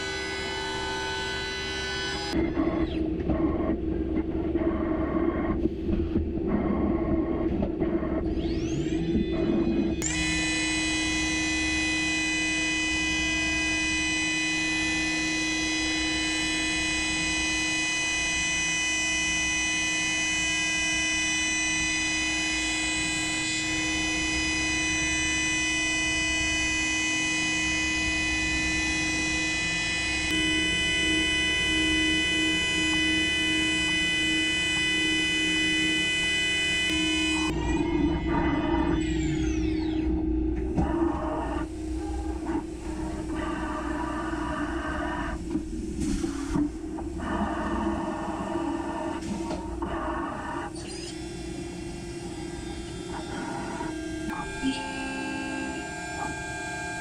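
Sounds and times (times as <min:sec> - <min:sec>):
low machine hum: 0:00.0 - 0:57.0
machine spindle whine: 0:00.0 - 0:57.0.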